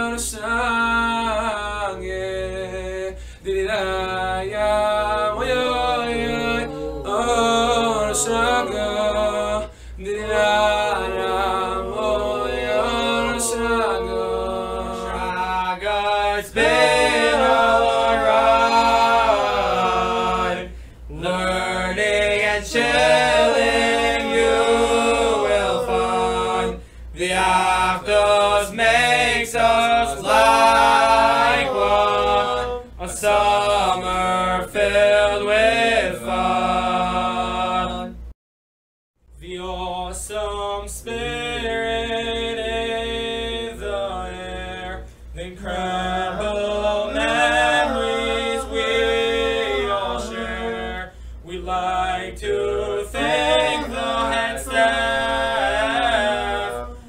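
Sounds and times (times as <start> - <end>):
a cappella singing: 0.0 - 38.4, 39.3 - 57.0.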